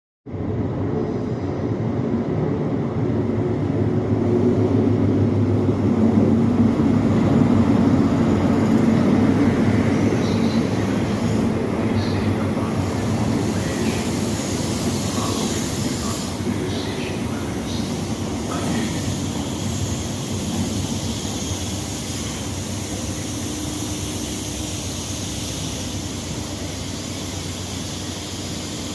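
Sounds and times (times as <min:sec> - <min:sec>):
diesel train engine drone: 0:00.3 - 0:28.9.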